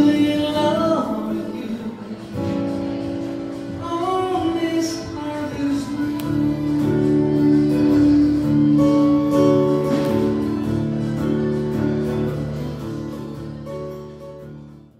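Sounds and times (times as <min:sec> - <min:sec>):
acoustic guitar chords: 0:00.0 - 0:14.9.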